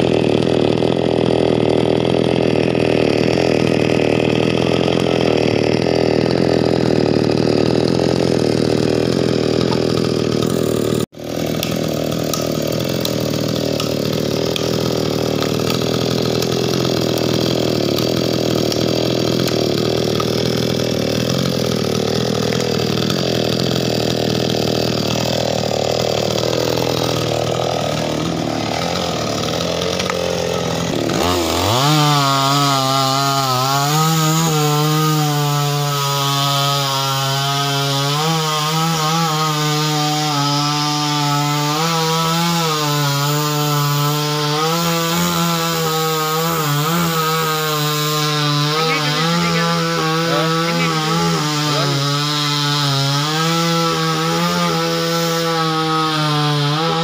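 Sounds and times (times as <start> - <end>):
chainsaw cutting into tree trunk: 0.0 - 57.0
chainsaw running: 0.0 - 57.0.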